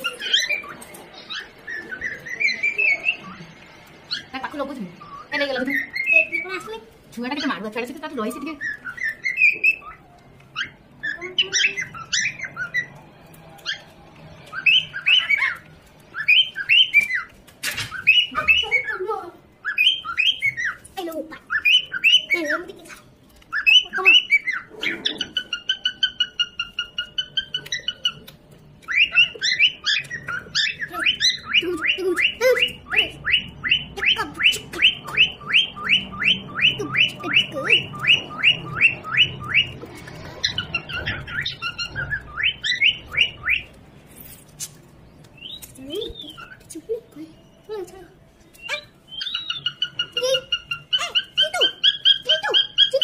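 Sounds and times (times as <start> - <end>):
parrot chirps and squawks: 0.0 - 44.8, 45.4 - 47.7, 48.4 - 53.0.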